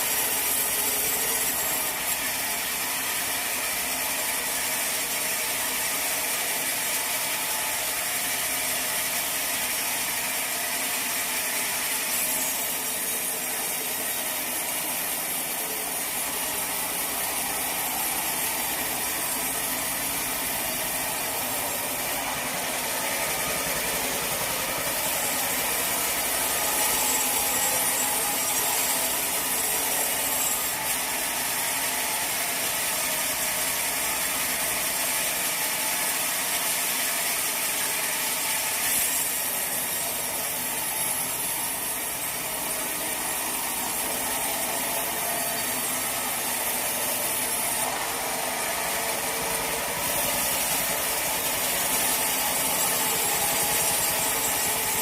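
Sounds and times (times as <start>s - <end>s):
mill machinery: 0.0s - 55.0s
saw cutting through log: 0.0s - 55.0s.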